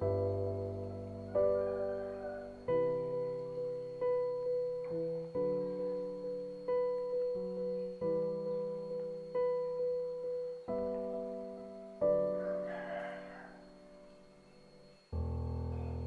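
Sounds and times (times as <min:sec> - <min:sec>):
calm solo piano: 0:00.0 - 0:16.0.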